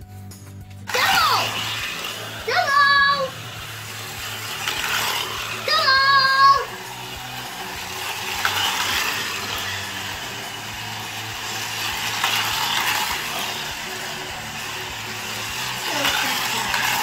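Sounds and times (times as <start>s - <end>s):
slot cars whirring on track: 0.8s - 17.0s.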